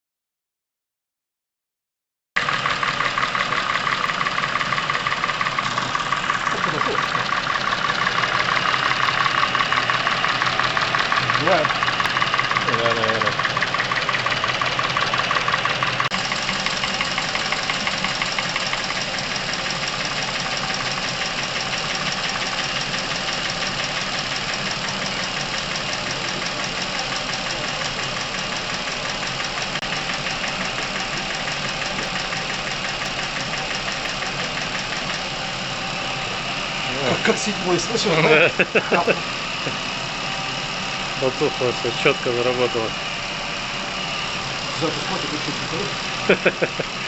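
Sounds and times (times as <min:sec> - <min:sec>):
car engine idling: 0:02.4 - 0:47.0
fast valve ticking: 0:02.4 - 0:47.0.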